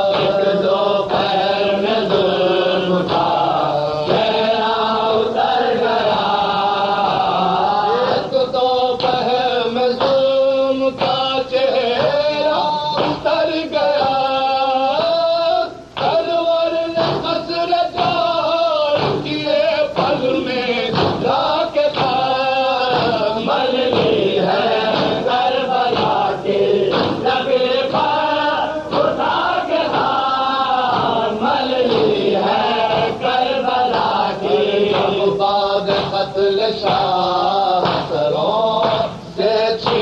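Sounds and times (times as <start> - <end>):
men chanting in unison: 0.0 - 40.0
sharp regular beats: 0.0 - 40.0.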